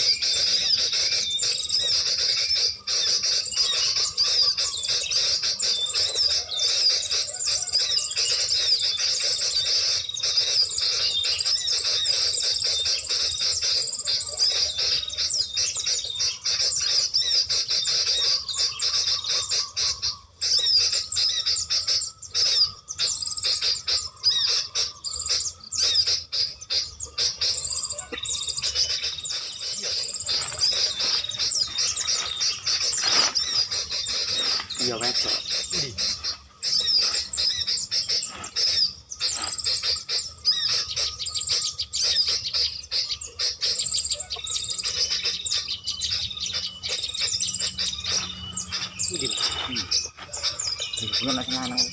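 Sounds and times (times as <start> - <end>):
small songbirds chirping: 0.0 - 51.9.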